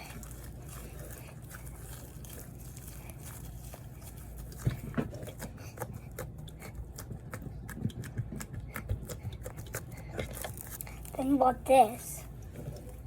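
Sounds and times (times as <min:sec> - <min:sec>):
slime squelching by hand: 0:00.0 - 0:13.0.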